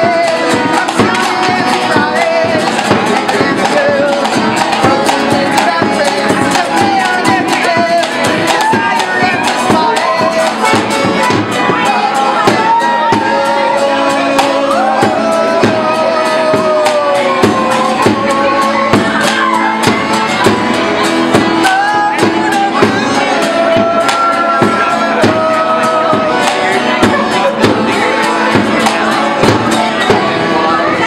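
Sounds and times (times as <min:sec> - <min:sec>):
accordion: 0:00.0 - 0:31.0
man singing: 0:00.0 - 0:31.0
percussion driving beat: 0:00.0 - 0:31.0
strummed acoustic guitar: 0:00.0 - 0:31.0.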